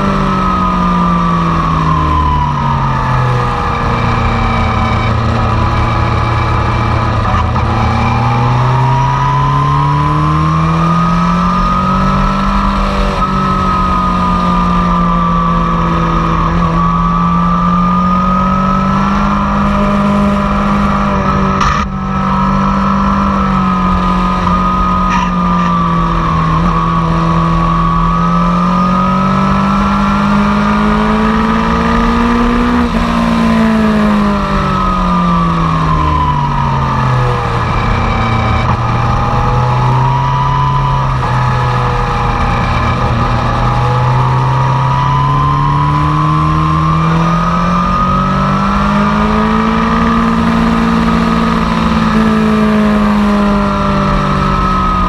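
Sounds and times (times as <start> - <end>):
motorcycle engine at speed: 0.0 - 55.0.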